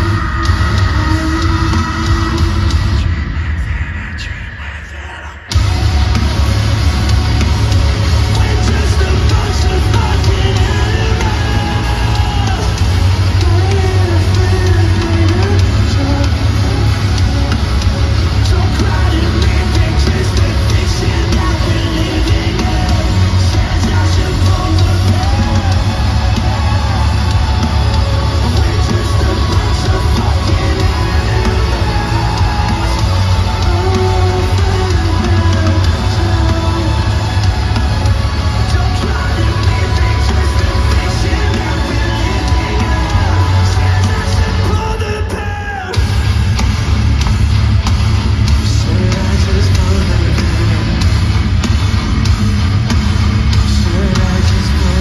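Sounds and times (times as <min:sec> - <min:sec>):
person singing: 0:00.0 - 0:46.3, 0:48.4 - 0:51.4, 0:53.5 - 0:55.0
metalcore band playing live: 0:00.0 - 0:55.0
sung and yelled vocals: 0:00.0 - 0:55.0.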